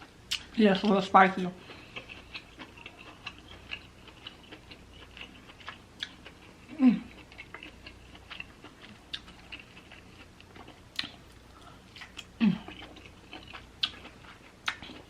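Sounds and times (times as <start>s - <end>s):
person chewing crab meat: 1.6s - 15.0s.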